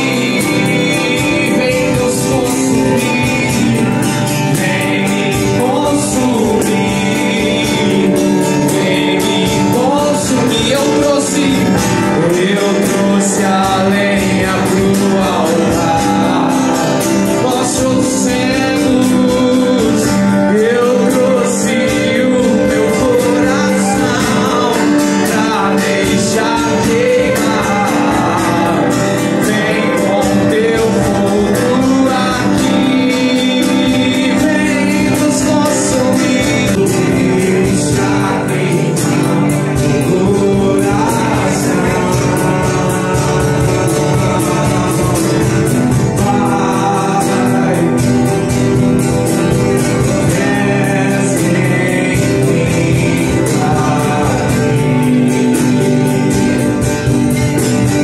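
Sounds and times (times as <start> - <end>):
instrumental accompaniment: 0.0 - 58.0
worship song singing: 0.0 - 58.0.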